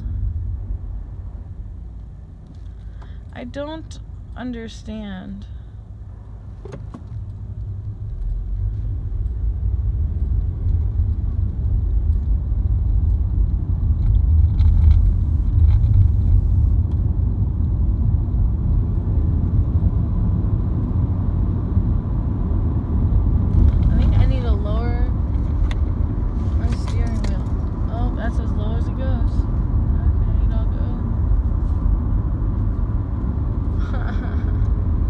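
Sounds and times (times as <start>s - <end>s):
car engine from inside cabin: 0.0s - 35.0s
road rumble: 0.0s - 35.0s.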